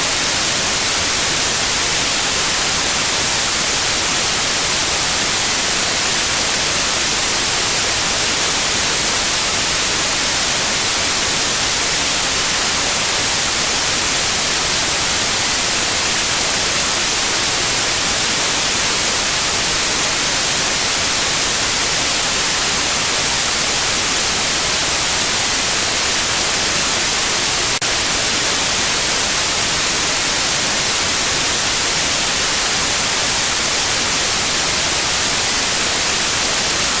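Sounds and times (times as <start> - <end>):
white noise hiss: 0.0 - 37.0.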